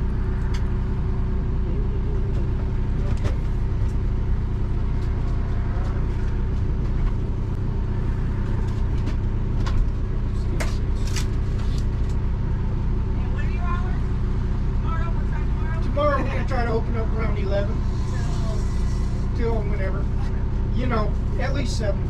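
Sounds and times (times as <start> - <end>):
mechanical drone with humming: 0.0 - 22.0.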